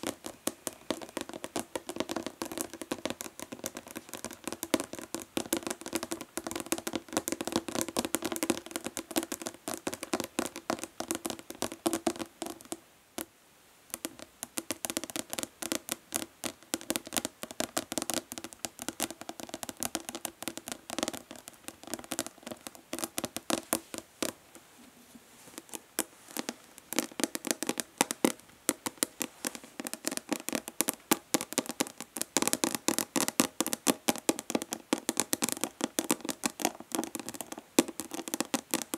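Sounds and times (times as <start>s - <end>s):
fingernails tapping plastic bottle: 0.0s - 13.3s, 13.9s - 24.4s, 25.6s - 38.9s.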